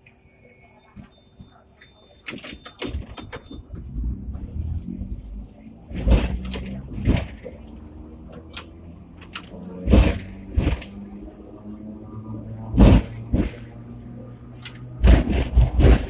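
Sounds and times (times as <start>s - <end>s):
tram rumble and motor hum: 0.0s - 16.0s.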